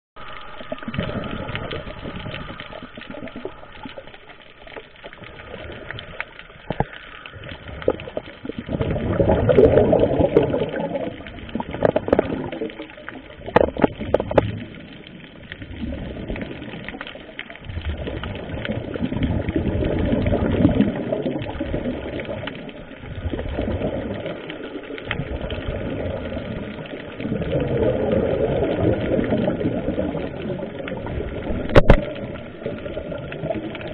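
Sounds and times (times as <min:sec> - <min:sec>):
underwater exhaust bubbles gurgling: 0:00.2 - 0:33.9.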